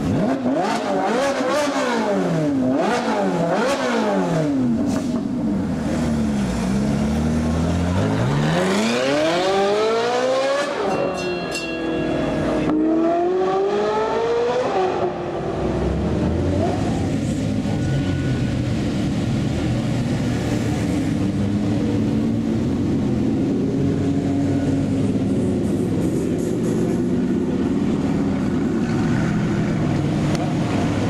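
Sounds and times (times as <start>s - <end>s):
sports car engine accelerating: 0.0s - 10.9s, 12.6s - 31.0s.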